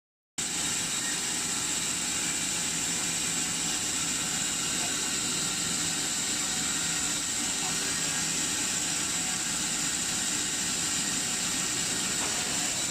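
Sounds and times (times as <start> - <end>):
band saw motor humming: 0.4 - 12.9.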